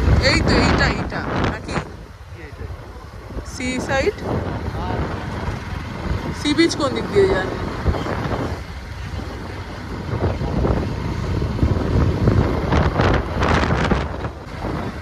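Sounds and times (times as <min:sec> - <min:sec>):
motorcycle running: 0:00.0 - 0:15.0
wind buffeting microphone: 0:00.0 - 0:15.0.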